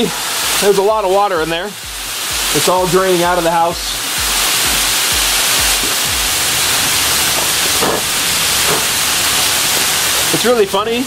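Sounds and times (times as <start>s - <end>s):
water jetting from drain pipe: 0.0s - 11.0s.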